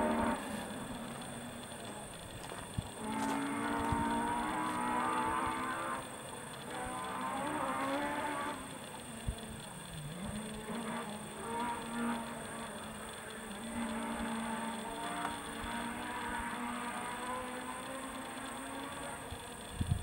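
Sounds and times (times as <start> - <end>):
distant rally car engine: 0.0 - 20.0.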